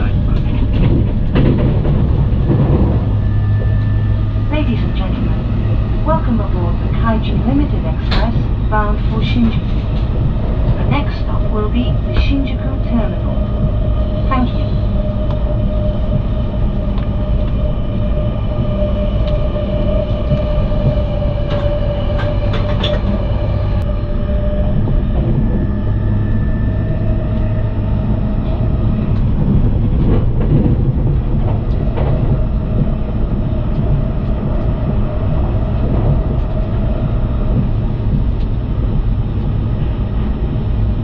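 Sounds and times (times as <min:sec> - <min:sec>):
train wheels clicking: 0:00.0 - 0:40.9
train interior rumble: 0:00.0 - 0:41.0.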